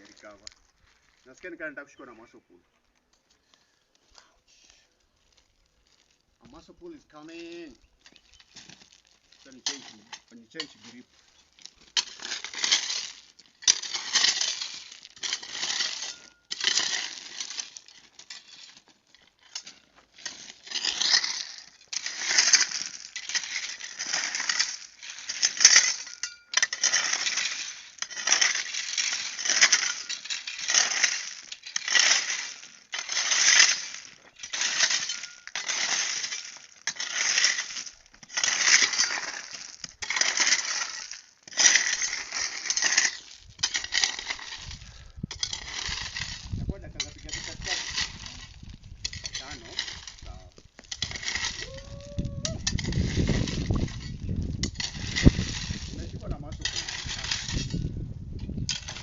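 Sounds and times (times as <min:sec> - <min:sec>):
digging tool scraping stony soil: 0:00.0 - 0:02.2, 0:04.9 - 0:59.0.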